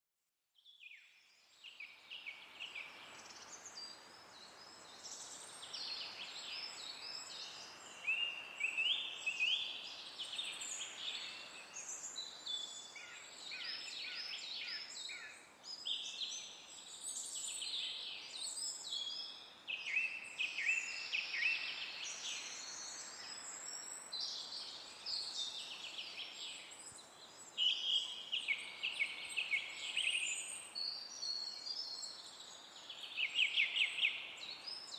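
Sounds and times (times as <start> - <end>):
faint forest ambience hiss: 0.6 - 34.9
songbirds singing and chirping: 0.6 - 34.9.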